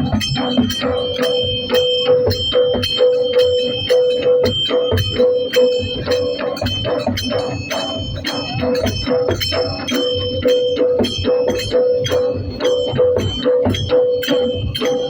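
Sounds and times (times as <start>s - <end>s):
fast driving drum strokes: 0.0s - 15.0s.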